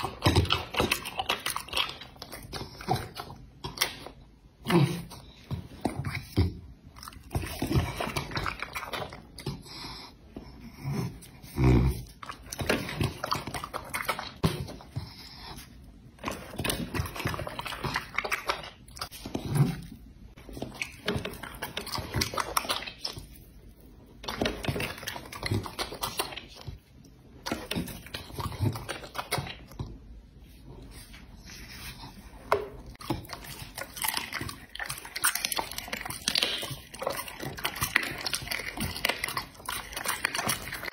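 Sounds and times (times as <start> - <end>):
dog chewing raw meat: 0.0 - 4.3, 5.0 - 9.7, 10.9 - 30.1, 32.0 - 40.9.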